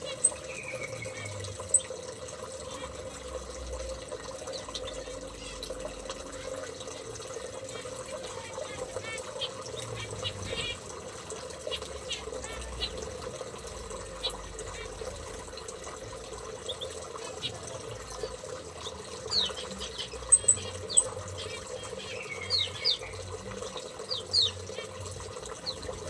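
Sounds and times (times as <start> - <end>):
small birds chirping: 0.0 - 3.1, 4.4 - 26.0
running water: 0.0 - 26.0.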